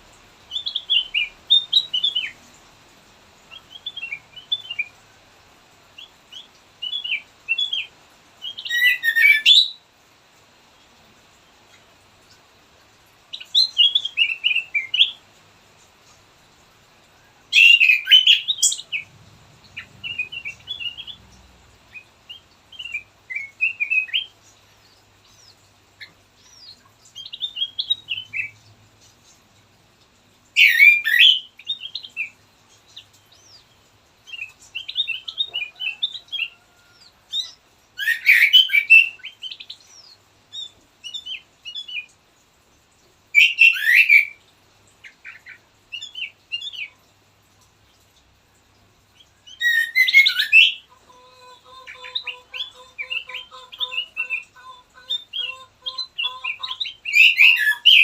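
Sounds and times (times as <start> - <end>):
bulbul singing: 0.0 - 2.7, 5.8 - 9.9, 13.3 - 15.3, 17.3 - 42.3, 43.3 - 48.3, 49.1 - 58.0.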